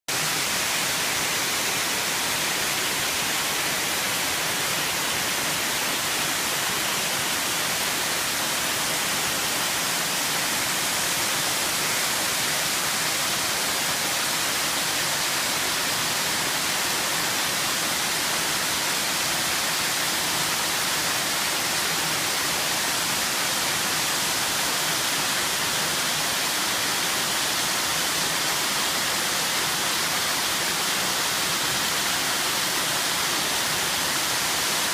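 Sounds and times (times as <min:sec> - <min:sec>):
small waterfall rushing: 0:00.1 - 0:34.9.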